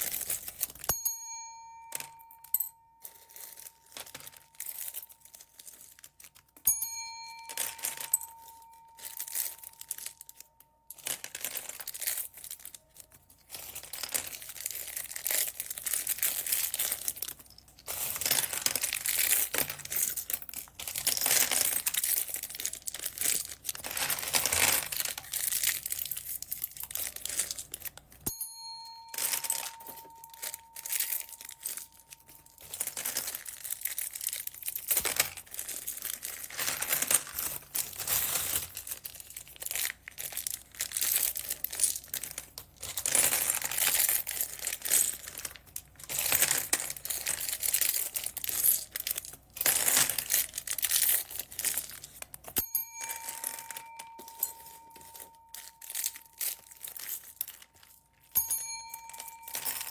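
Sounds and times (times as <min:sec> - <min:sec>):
plastic bags crinkling: 0:00.0 - 0:00.9, 0:03.0 - 0:06.6, 0:07.2 - 0:59.9.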